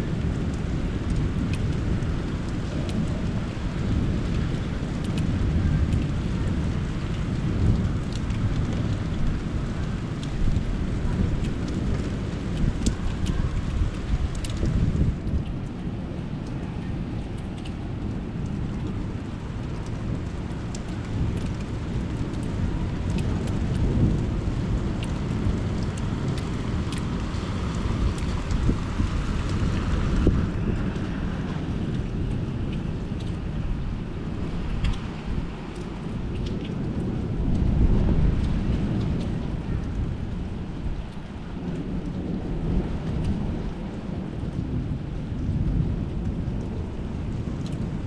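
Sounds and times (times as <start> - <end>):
raindrops ticking close by: 0.0 - 48.0
steady rain: 0.0 - 48.0
thunder rumbling: 0.0 - 48.0.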